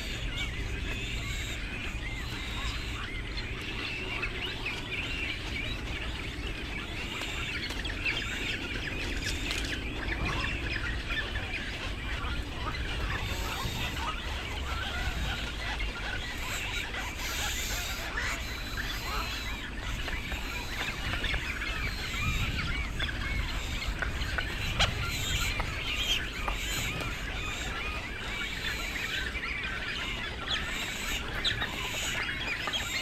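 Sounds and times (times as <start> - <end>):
birds chirping and clucking: 0.0 - 33.0
steady low rumble: 0.0 - 33.0.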